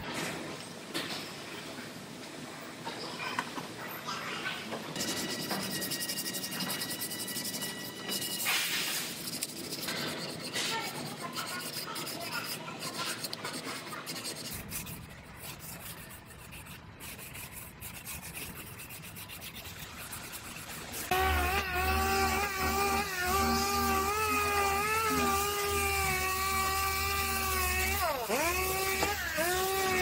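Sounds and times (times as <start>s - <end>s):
sandpaper scraping back and forth: 5.0s - 30.0s.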